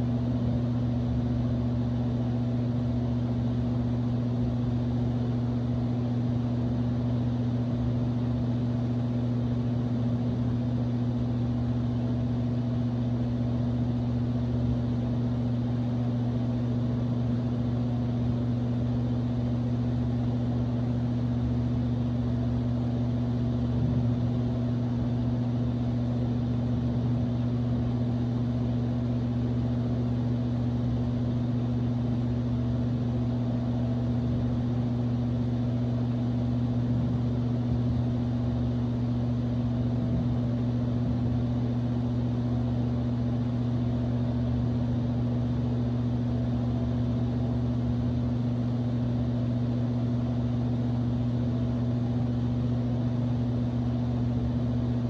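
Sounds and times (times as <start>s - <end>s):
electric fan humming: 0.0s - 55.0s.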